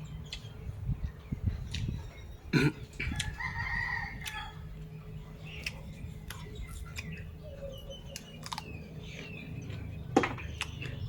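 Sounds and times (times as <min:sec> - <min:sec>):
low background rumble: 0:00.0 - 0:11.0
small birds chirping: 0:00.0 - 0:11.0.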